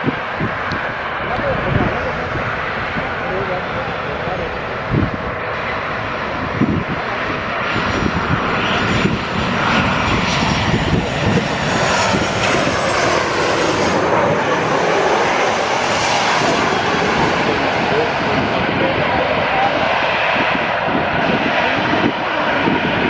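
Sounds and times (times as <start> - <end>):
airliner engines roaring: 0.0 - 23.0
high engine whine: 0.0 - 23.0.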